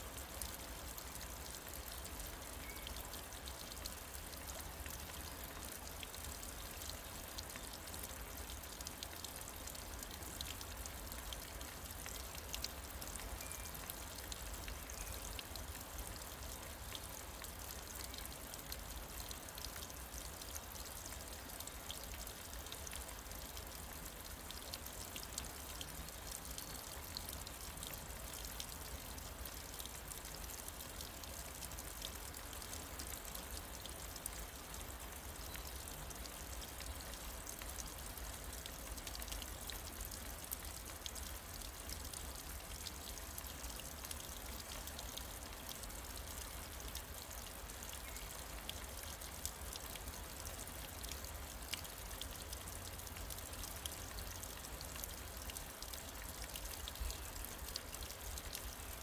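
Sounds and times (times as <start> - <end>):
small water drips: 0.0 - 59.0
water trickling down rock: 0.0 - 59.0.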